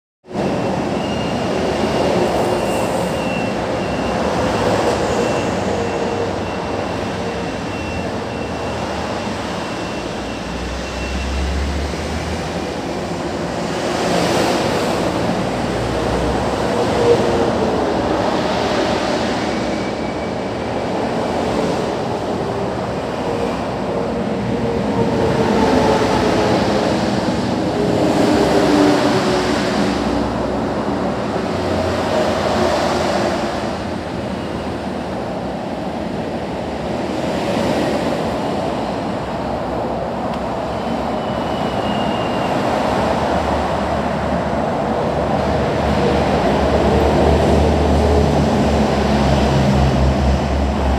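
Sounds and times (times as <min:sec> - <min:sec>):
freeway traffic noise: 0:00.2 - 0:50.9.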